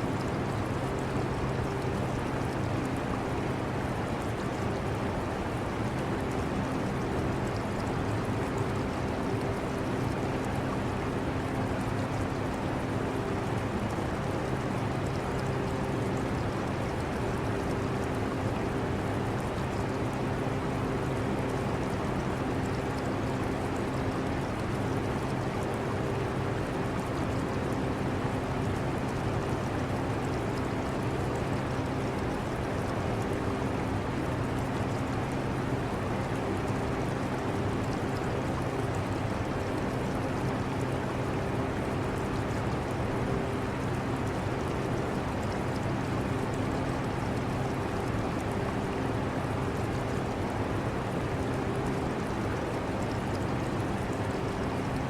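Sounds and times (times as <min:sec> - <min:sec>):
water trickling in aquarium: 0:00.0 - 0:55.0.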